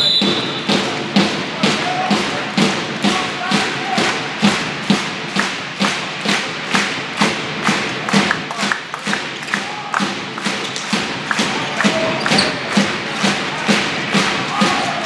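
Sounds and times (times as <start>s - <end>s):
drum beating steady rhythm: 0.0s - 15.0s.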